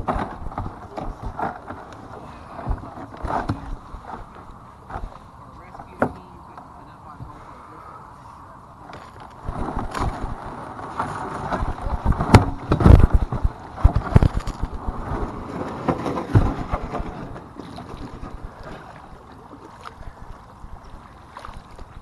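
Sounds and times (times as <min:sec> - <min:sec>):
water splashing against kayak hull: 0:00.0 - 0:22.0.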